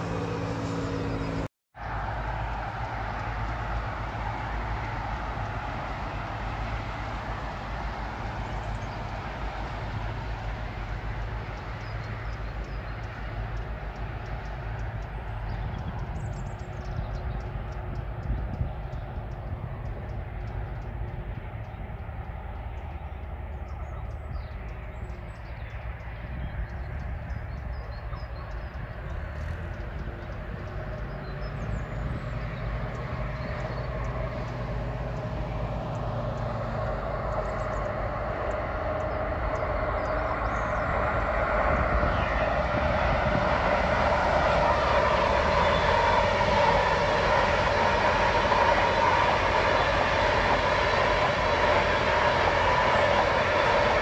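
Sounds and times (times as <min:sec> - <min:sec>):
train rumble and rail noise: 0:00.0 - 0:54.0.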